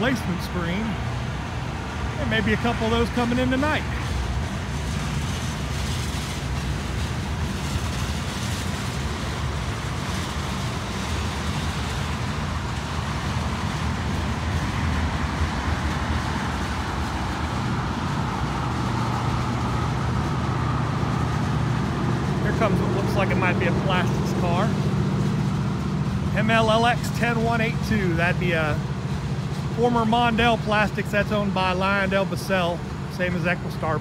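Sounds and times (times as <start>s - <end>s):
low engine rumble: 0.0s - 34.0s
traffic-like noise: 0.0s - 34.0s.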